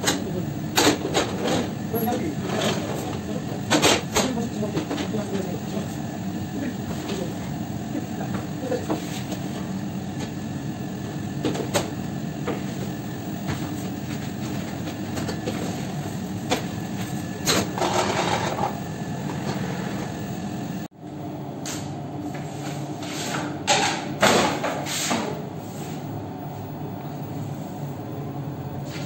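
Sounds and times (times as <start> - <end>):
machinery hum and rumble: 0.0 - 29.0.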